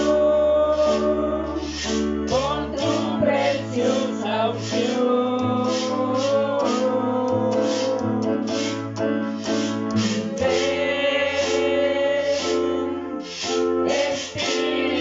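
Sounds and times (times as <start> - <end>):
electronic keyboard chords: 0.0 - 15.0
small group singing a worship song: 0.0 - 15.0.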